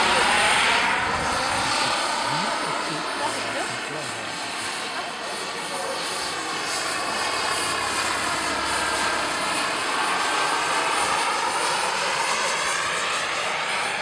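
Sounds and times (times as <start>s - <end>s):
model helicopter rotor whine: 0.0s - 14.0s.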